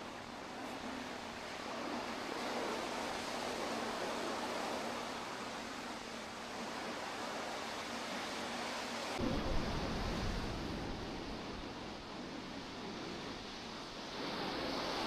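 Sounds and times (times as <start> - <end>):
waves breaking on sandy beach: 0.0 - 15.0.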